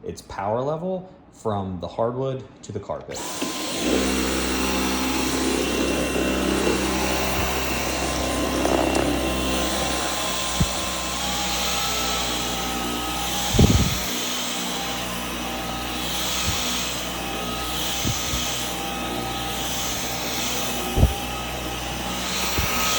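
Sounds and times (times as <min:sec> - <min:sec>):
cordless vacuum running: 0:03.1 - 0:22.9.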